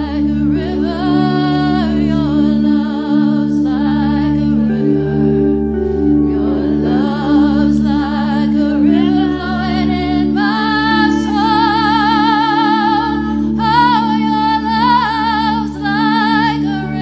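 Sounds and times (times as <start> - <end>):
woman singing with vibrato: 0.0 - 5.4, 6.2 - 17.0
sustained keyboard chords: 0.0 - 17.0.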